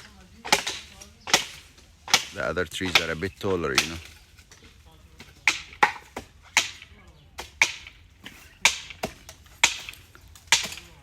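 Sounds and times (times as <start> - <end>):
blade chopping palm frond bases: 0.0 - 11.0.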